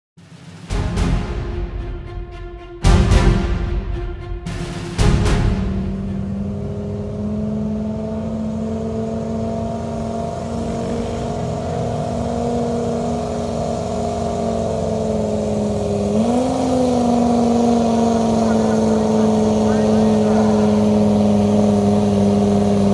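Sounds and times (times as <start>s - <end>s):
truck engine at high revs: 0.3s - 22.9s.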